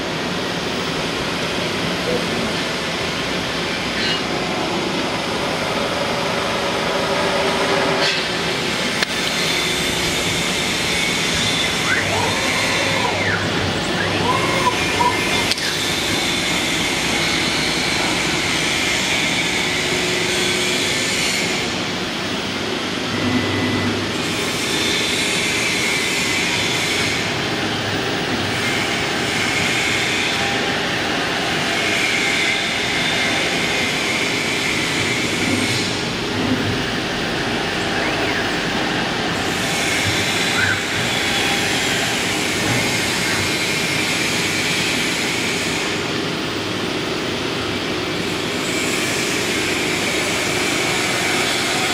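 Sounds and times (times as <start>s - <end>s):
cnc wood router cutting wood: 0.0s - 51.9s.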